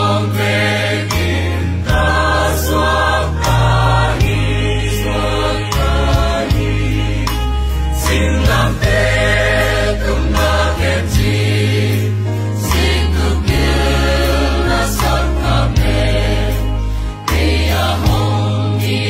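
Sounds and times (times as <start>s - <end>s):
mixed choir singing: 0.0s - 19.0s
musical accompaniment with bass notes: 0.0s - 19.0s.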